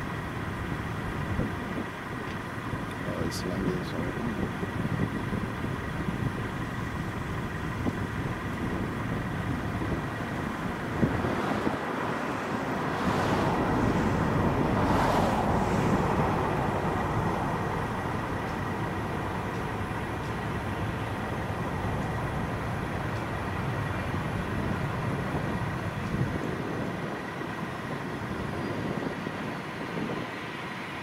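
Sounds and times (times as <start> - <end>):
jet engines rushing: 0.1 - 31.0.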